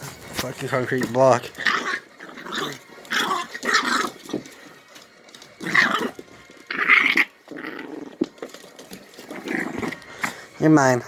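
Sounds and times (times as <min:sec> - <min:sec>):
puppy growling: 0:00.8 - 0:10.5.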